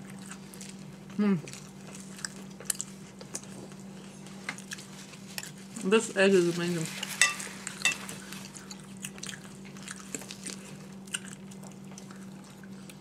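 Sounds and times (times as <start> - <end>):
crunchy chewing and biting: 0.0 - 5.8, 7.0 - 13.0
low steady hum: 0.0 - 13.0.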